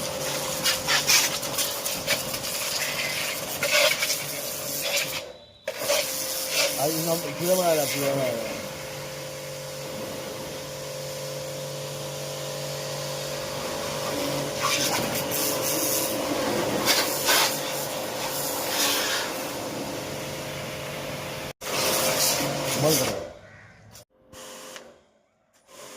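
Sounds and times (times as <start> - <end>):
water jet hissing: 0.0 - 23.1
pressure washer motor hum: 0.0 - 23.6.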